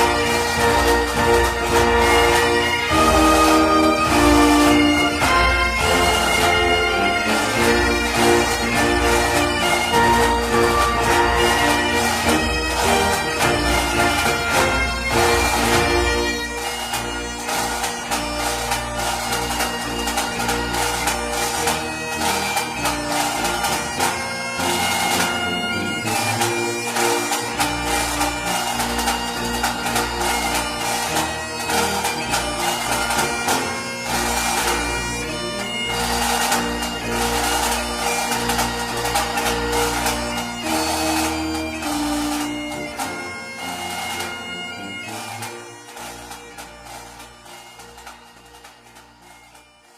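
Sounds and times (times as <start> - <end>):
bagpipe music with drones: 0.0 - 49.9.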